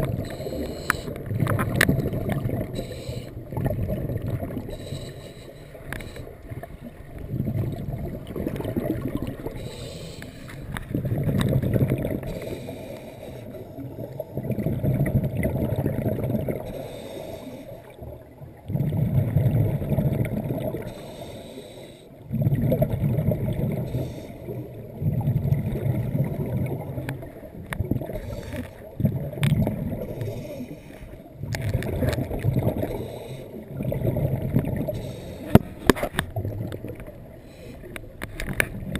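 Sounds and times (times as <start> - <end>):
underwater exhaust bubbles: 0.0 - 38.9.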